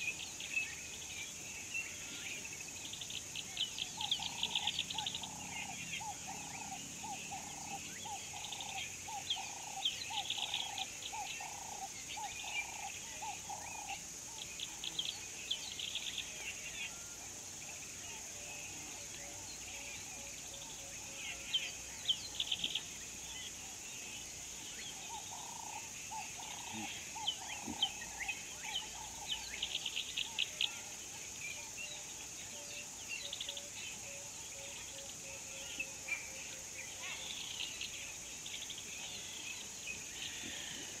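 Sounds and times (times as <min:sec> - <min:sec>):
birds chirping and trilling: 0:00.0 - 0:41.0.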